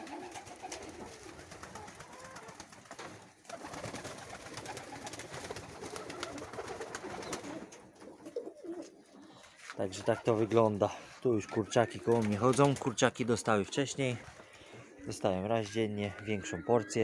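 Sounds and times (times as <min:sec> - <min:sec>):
pigeons cooing: 0:00.0 - 0:02.7, 0:03.5 - 0:17.0.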